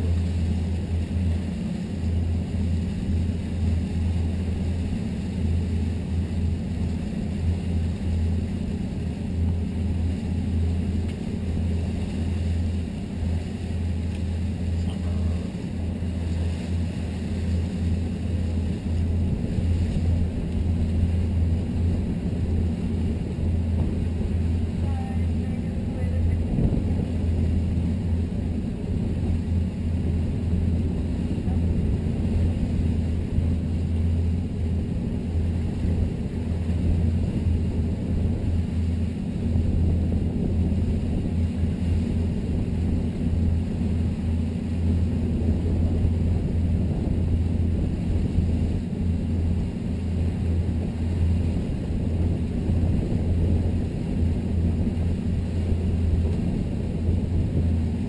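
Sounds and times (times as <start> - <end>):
boat engine low rumble: 0.0 - 58.0.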